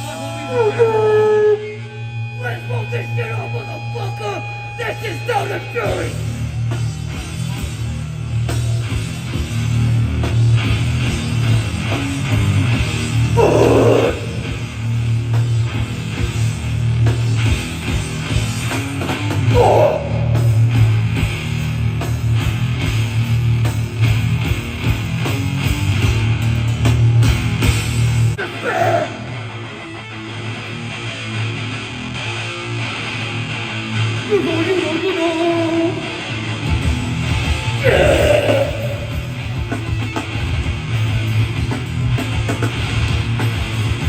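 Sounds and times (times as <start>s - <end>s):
hardcore band playing live: 0.0s - 44.0s
distorted electric guitar riff: 1.4s - 6.5s, 9.0s - 44.0s.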